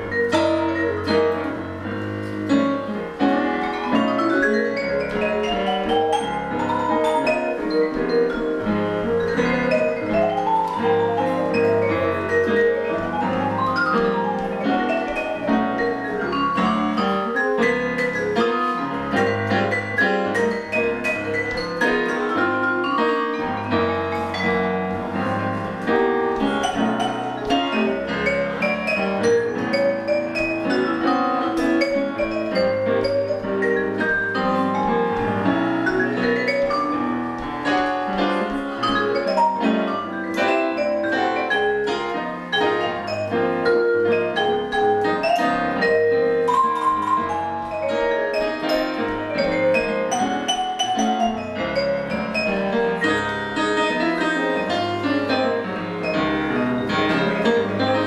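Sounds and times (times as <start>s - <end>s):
piano chords: 0.0s - 58.0s
vibraphone notes: 0.0s - 58.0s.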